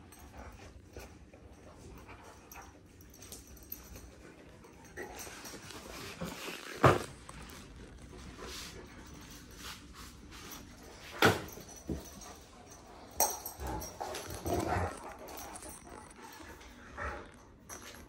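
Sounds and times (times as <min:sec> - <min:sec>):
dogs scuffling: 0:00.8 - 0:18.0.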